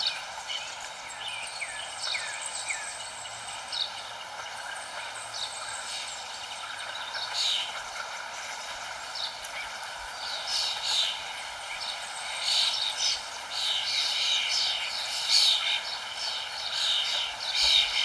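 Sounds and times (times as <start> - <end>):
songbirds chirping: 0.0 - 18.0
steady outdoor hiss: 0.0 - 18.0.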